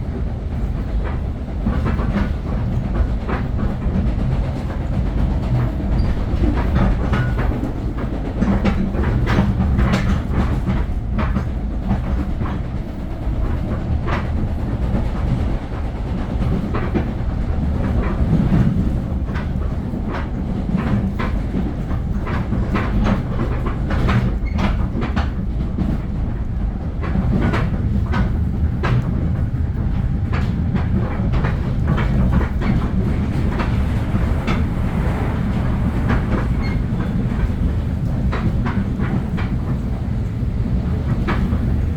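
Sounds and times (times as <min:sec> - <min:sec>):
train rumbling: 0:00.0 - 0:41.9
wheels clacking on rails: 0:00.0 - 0:41.9.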